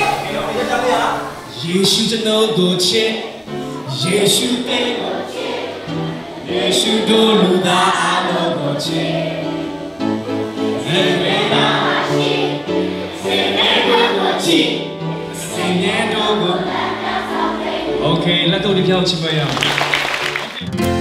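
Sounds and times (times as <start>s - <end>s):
children singing together: 0.0s - 18.2s
backing music: 0.0s - 21.0s.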